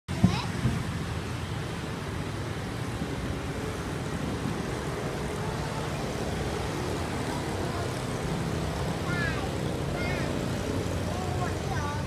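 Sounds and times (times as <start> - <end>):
vehicle interior road noise: 0.1 - 12.0.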